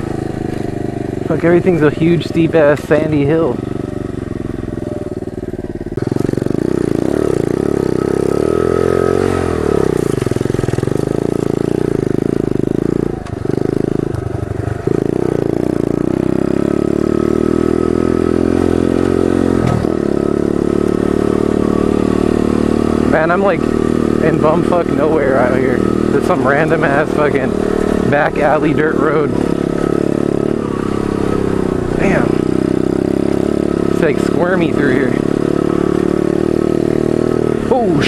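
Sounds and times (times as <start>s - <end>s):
motorbike engine revving: 0.0s - 38.0s.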